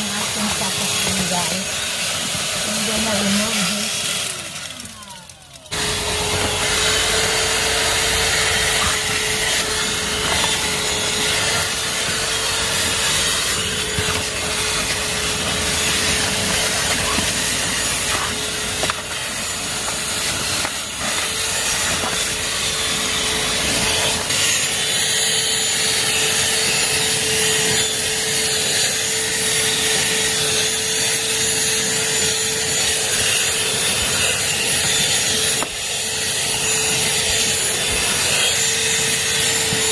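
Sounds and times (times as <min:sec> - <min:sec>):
vacuum nozzle scraping surfaces: 0:00.0 - 0:05.0, 0:05.6 - 0:39.9
handheld vacuum whine: 0:00.0 - 0:39.9.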